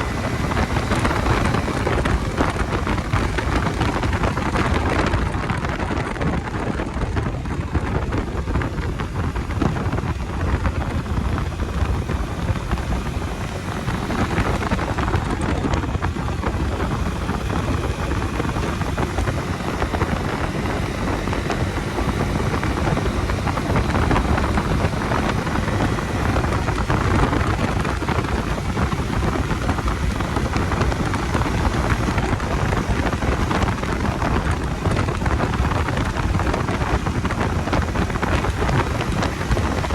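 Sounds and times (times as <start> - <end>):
motorcycle running: 0.0 - 39.9
road noise: 0.0 - 39.9
wind buffeting microphone: 0.0 - 39.9.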